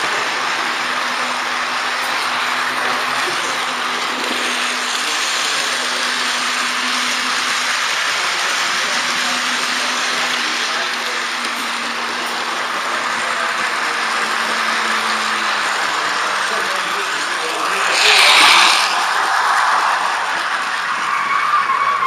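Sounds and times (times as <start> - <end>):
model train wheels whirring: 0.0 - 22.0.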